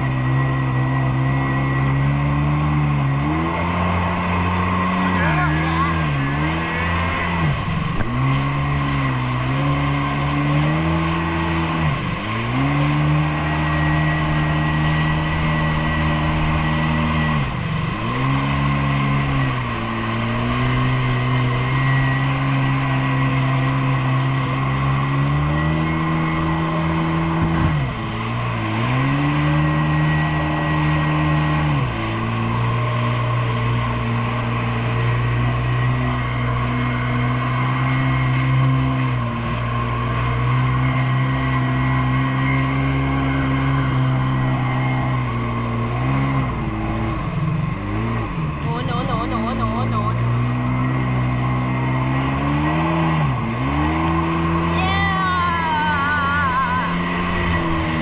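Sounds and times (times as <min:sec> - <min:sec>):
jet ski engine revving: 0:00.0 - 0:58.0
wind and water hiss: 0:00.0 - 0:58.0.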